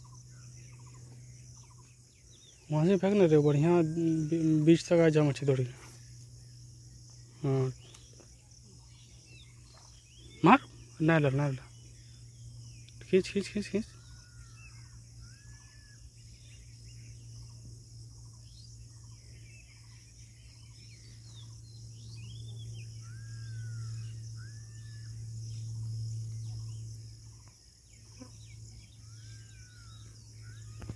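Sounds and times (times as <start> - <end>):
birds chirping: 0.0 - 30.9
insect hiss: 0.0 - 30.9
low steady hum: 0.0 - 30.9.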